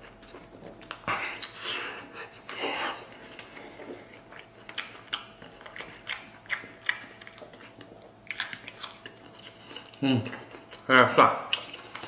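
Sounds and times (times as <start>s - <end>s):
person chewing meat: 0.0s - 12.0s.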